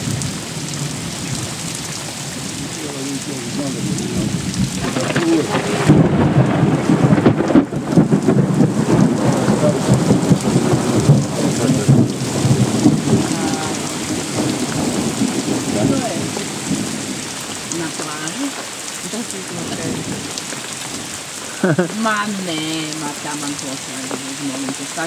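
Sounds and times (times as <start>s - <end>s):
rolling thunder: 0.0s - 21.9s
heavy rain pouring: 0.0s - 25.0s.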